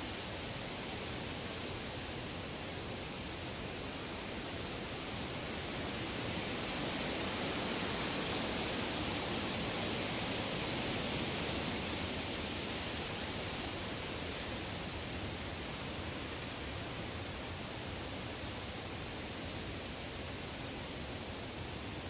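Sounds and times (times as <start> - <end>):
woodland rushing hiss: 0.0 - 22.0.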